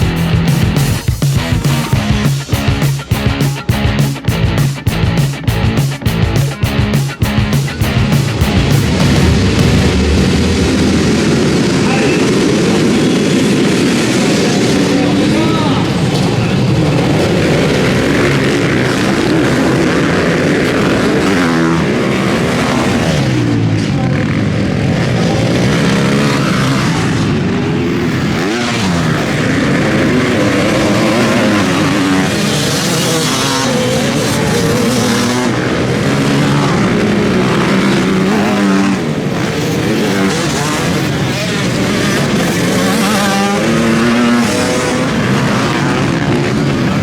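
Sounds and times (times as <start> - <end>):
motocross engines revving: 0.0 - 47.0.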